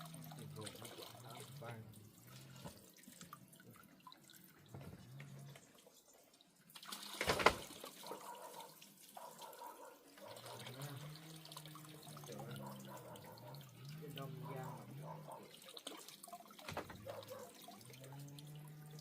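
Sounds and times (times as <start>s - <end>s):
water running and splashing: 0.0s - 19.0s.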